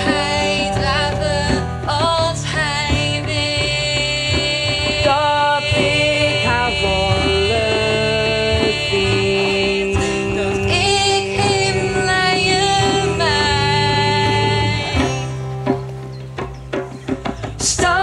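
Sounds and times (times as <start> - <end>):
song with held notes: 0.0 - 18.0.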